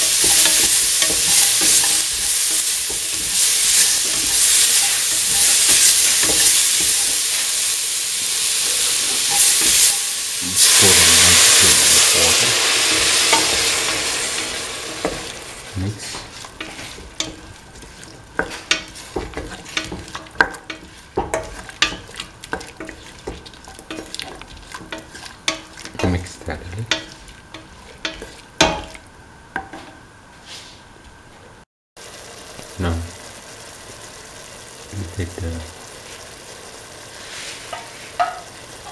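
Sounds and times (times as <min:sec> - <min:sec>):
vegetables sizzling in hot oil: 0:00.0 - 0:29.0, 0:32.0 - 0:38.9.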